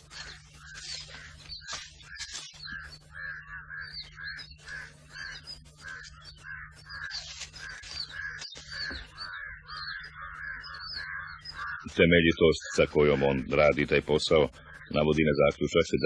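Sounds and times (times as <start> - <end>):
bird harsh calls: 0.0 - 16.0
higher bird chirps: 0.0 - 16.0
low steady hum: 0.0 - 16.0.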